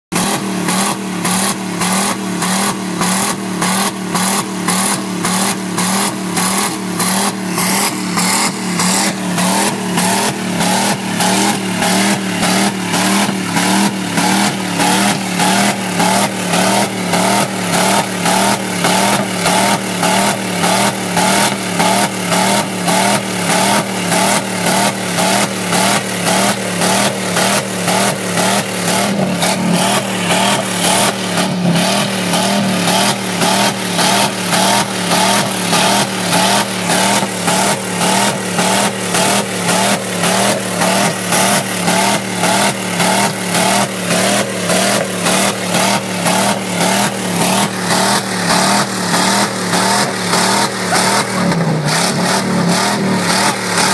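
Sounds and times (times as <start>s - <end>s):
engine stuttering on rev limiter: 0.1s - 53.9s.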